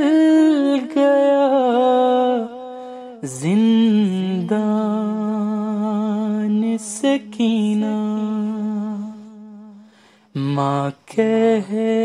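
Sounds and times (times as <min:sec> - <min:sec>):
man singing a lament: 0:00.0 - 0:12.0.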